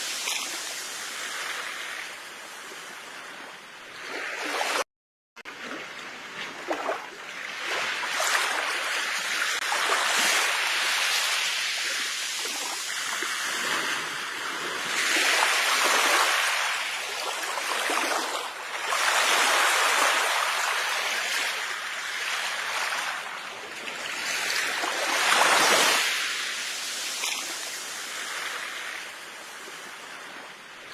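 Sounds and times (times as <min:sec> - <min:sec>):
ocean waves breaking: 0:00.0 - 0:04.8, 0:05.4 - 0:30.6.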